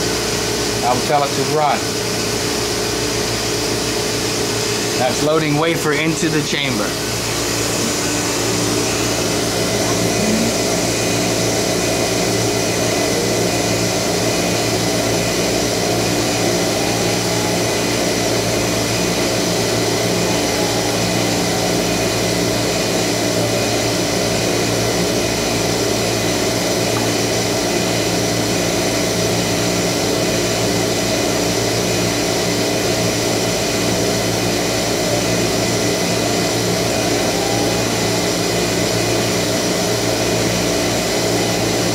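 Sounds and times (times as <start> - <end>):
vacuum pumps and fans humming: 0.0 - 41.9.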